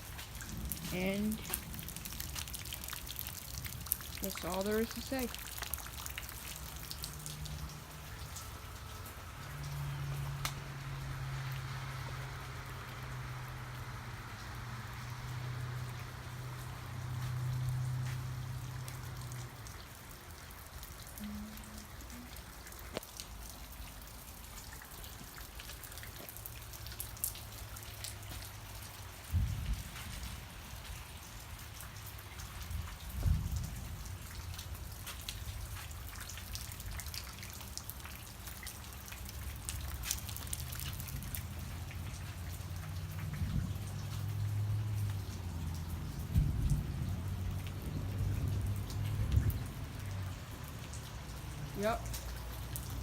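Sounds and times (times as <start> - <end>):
raindrops pattering: 0.0 - 53.0.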